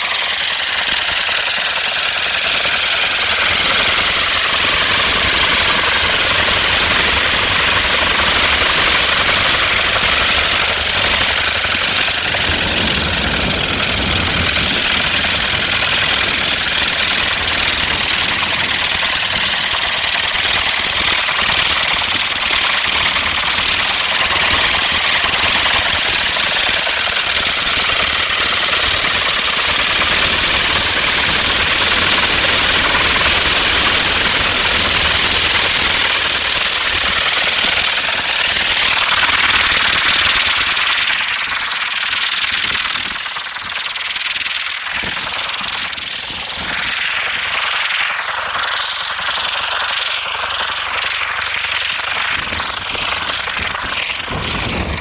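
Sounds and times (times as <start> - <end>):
rocket engines rushing hiss: 0.0 - 55.0.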